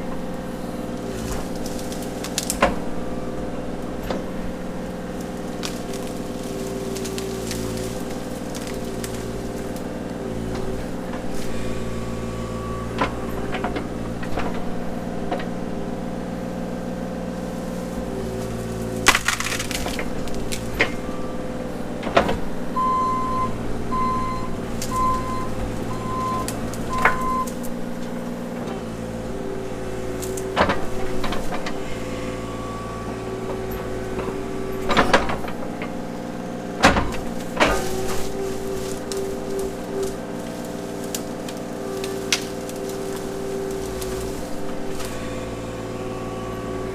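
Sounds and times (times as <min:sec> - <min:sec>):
roots and wood cracking: 0:00.0 - 0:15.6, 0:17.3 - 0:21.4, 0:22.8 - 0:46.9
excavator diesel engine running: 0:00.0 - 0:46.9.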